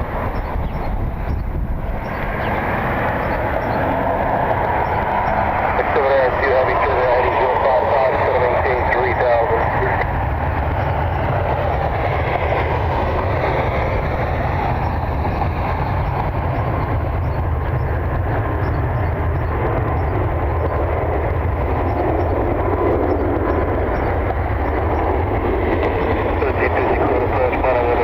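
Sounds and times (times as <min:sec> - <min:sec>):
gliding engine whine: 0:00.0 - 0:28.0
jet engines rushing: 0:00.0 - 0:28.0
wind buffeting microphone: 0:00.0 - 0:28.0.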